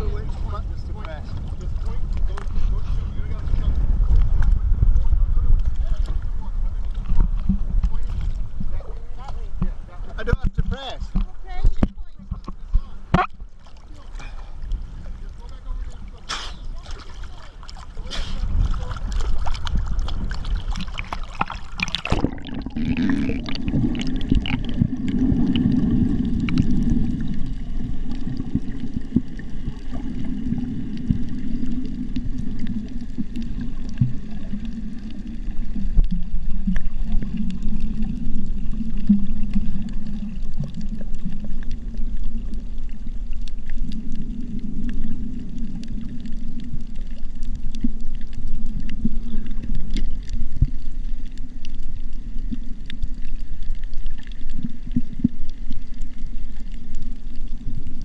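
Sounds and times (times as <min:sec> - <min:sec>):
muffled underwater rumble: 0:00.0 - 0:58.0
water sloshing and gurgling: 0:00.0 - 0:58.0.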